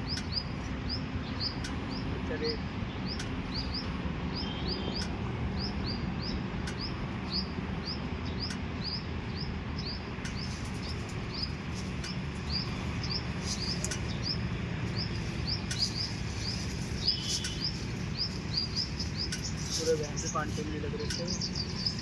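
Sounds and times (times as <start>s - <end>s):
bird chirping: 0.0s - 22.0s
low background rumble: 0.0s - 22.0s.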